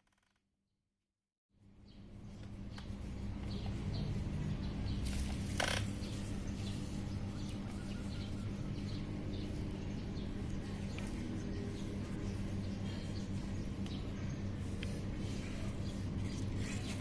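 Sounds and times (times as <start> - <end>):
steady low hum: 1.6 - 17.0
small birds chirping: 1.7 - 17.0.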